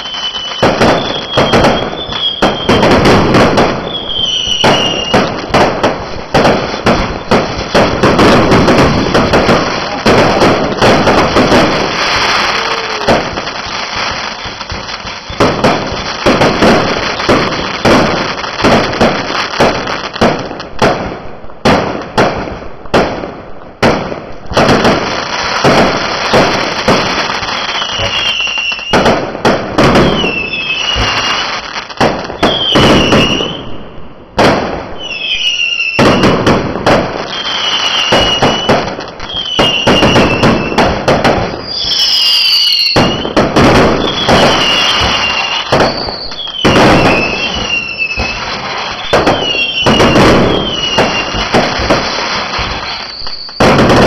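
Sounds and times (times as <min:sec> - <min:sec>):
firework whistles: 0:00.0 - 0:20.0, 0:24.6 - 0:29.2, 0:29.8 - 0:34.2, 0:34.9 - 0:36.6, 0:37.2 - 0:54.0
fireworks bangs and crackles: 0:00.0 - 0:54.0.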